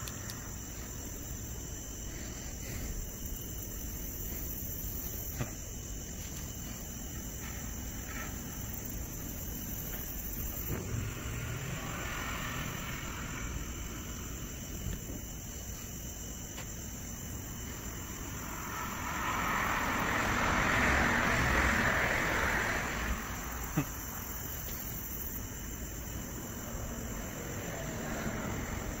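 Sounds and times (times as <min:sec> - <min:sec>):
crickets chirping: 0:00.0 - 0:29.0
road traffic rumble: 0:00.0 - 0:29.0.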